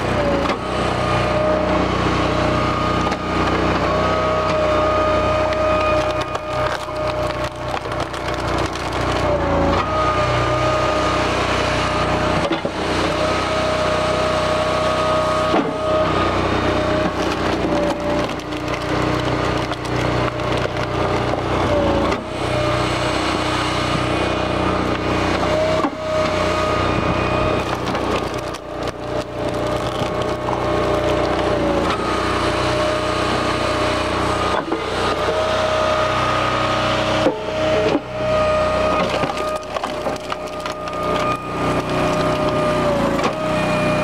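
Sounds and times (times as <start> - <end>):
firewood processor engine running: 0.0 - 44.0
wood cracking and splintering: 2.9 - 10.7, 12.4 - 36.6, 37.2 - 44.0.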